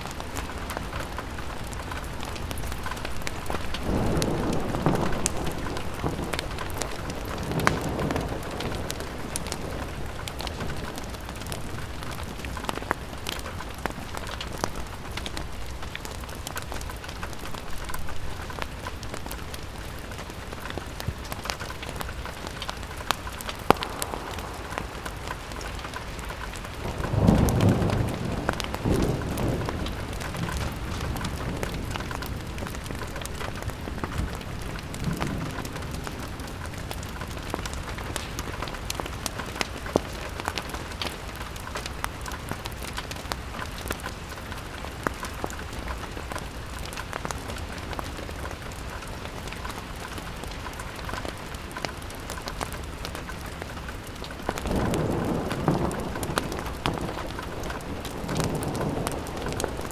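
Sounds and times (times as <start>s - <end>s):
rain against a window: 0.0s - 59.9s
sharp ticks and crackles: 0.1s - 59.9s.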